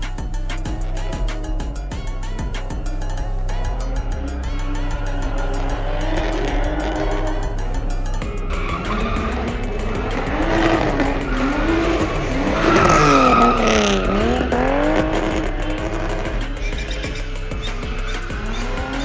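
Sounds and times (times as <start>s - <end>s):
sports car engine revving: 0.0s - 19.0s
tyres squealing: 0.0s - 19.0s.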